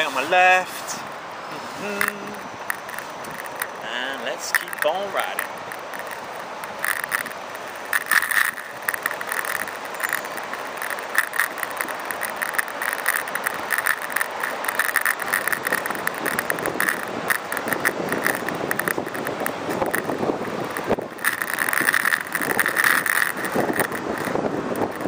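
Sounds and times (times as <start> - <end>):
bicycle basket rattling: 0.0 - 25.0
bicycle rolling noise: 0.0 - 25.0.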